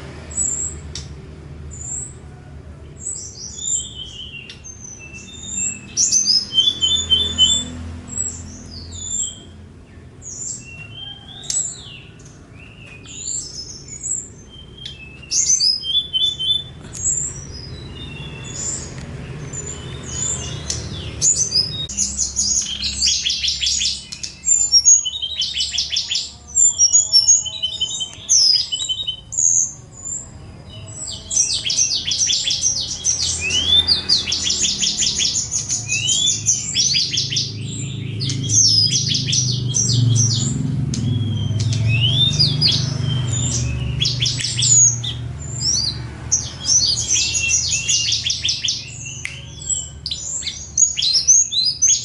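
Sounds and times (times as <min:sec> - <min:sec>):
songbird singing: 0:00.0 - 0:52.0.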